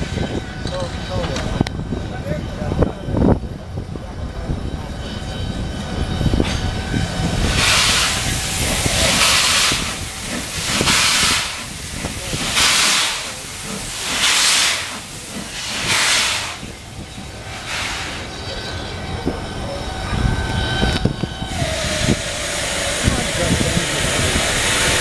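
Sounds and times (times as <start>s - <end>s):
steam locomotive exhaust chuffing: 0.0s - 25.0s
train rumbling on rails: 0.0s - 25.0s.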